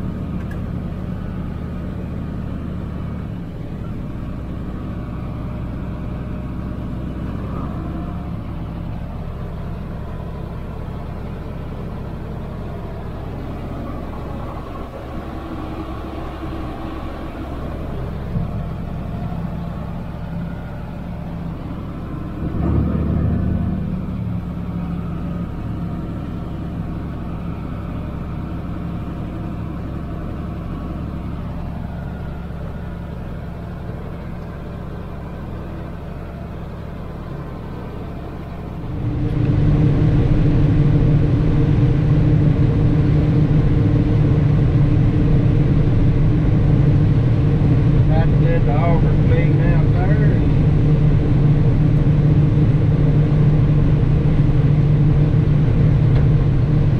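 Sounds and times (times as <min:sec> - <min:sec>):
harvesting machinery engine drone: 0:00.0 - 0:56.9
low hum: 0:00.0 - 0:56.9.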